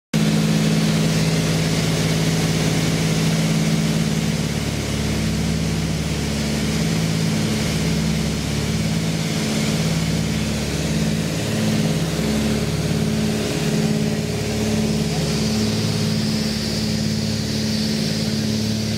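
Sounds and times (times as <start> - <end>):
propeller engines droning: 0.2 - 18.9.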